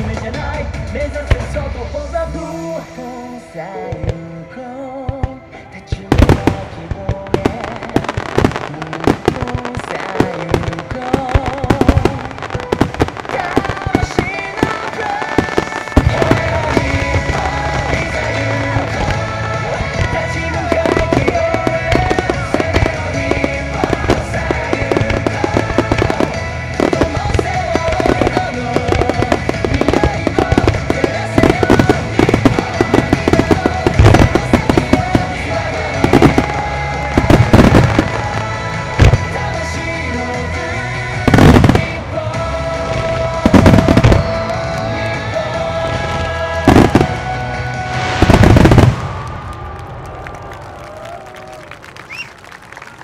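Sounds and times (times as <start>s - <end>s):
music playing: 0.0s - 53.0s
fireworks bursting with bangs: 5.0s - 52.3s
fireworks crackle: 5.9s - 53.0s.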